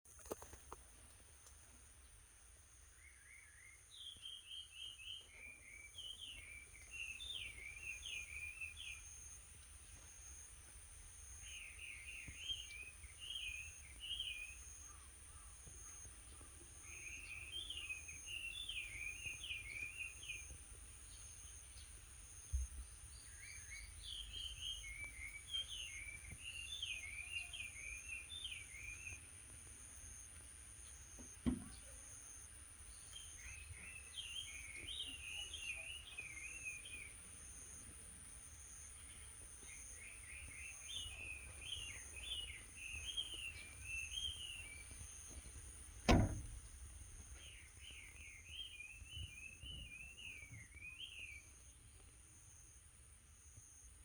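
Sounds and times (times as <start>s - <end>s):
songbird singing: 0.1s - 54.0s.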